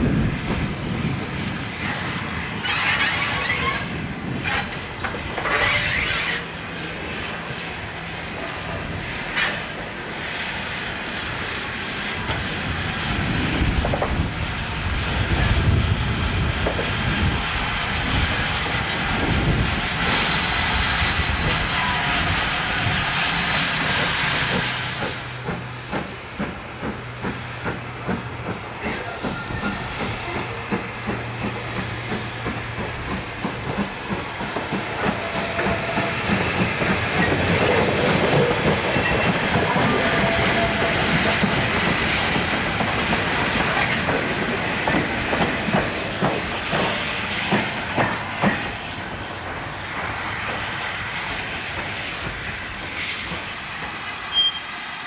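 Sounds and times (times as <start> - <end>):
steam hissing: 0.0 - 55.0
steam locomotive working: 0.0 - 55.0.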